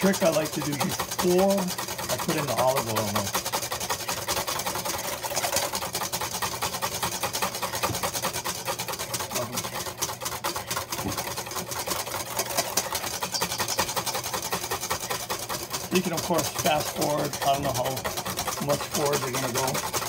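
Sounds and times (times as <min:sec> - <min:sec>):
whisk clicking against metal bowl: 0:00.0 - 0:20.0.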